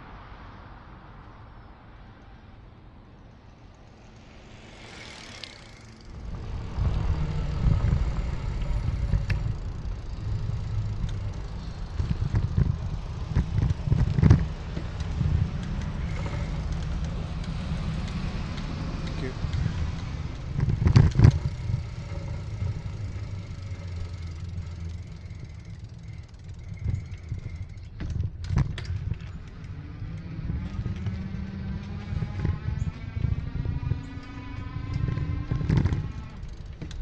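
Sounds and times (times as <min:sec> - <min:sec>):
street traffic: 0:00.0 - 0:37.0
wind buffeting microphone: 0:05.9 - 0:37.0.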